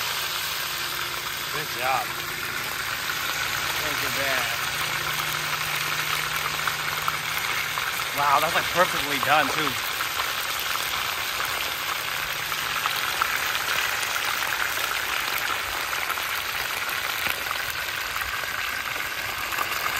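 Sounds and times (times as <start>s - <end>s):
fish frying in hot oil: 0.0s - 19.9s
oil popping: 0.0s - 19.9s.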